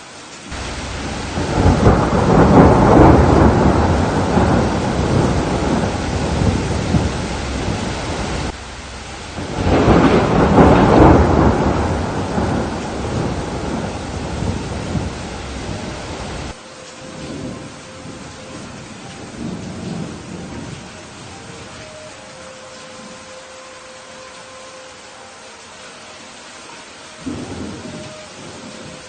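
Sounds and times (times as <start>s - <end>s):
steady rain: 0.0s - 29.0s
thunder rolling: 0.5s - 22.0s, 27.2s - 29.0s.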